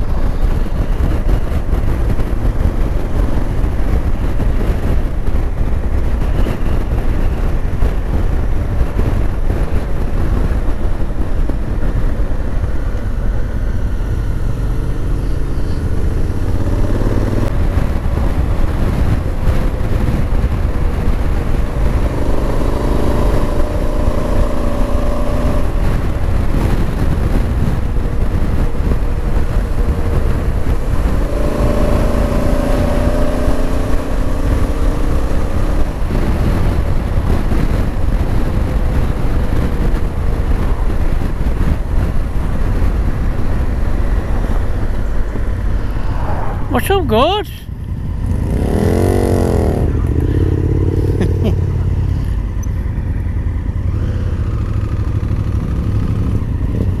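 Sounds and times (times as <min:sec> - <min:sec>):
motorcycle engine running: 0:00.0 - 0:46.0, 0:47.7 - 0:57.0
wind rushing over microphone: 0:00.0 - 0:57.0.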